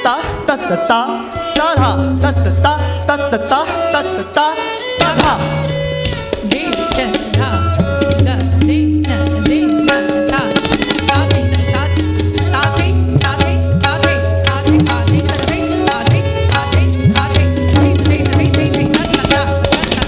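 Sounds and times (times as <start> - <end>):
harmonium melody: 0.0 - 20.0
tabla playing: 0.0 - 20.0.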